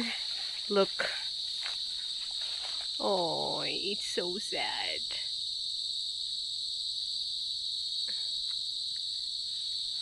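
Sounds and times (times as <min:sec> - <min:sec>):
insect chorus chirring: 0:00.0 - 0:10.0.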